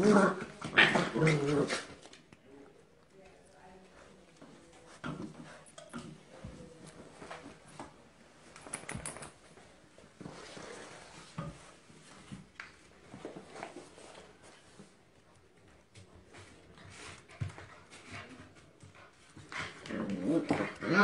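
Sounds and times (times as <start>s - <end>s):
puppy paws on wooden floor: 1.5s - 20.9s.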